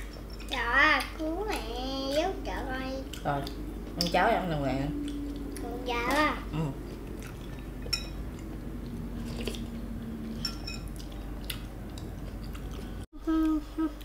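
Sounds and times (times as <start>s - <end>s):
wet chewing: 1.0s - 4.2s, 4.9s - 13.1s.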